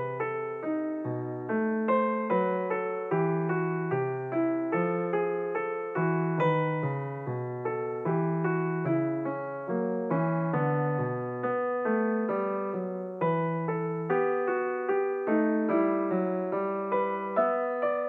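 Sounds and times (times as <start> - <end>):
background piano music: 0.0 - 18.0.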